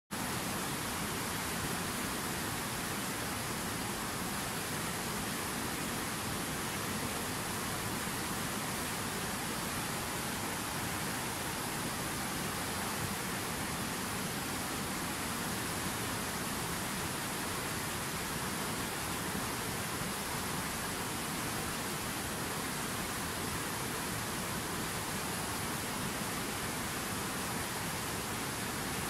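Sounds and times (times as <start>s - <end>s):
river rushing over rocks: 0.2s - 29.0s.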